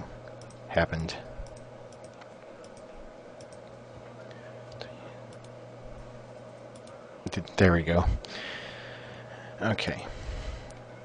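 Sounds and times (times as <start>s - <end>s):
low microphone hum: 0.0s - 11.0s.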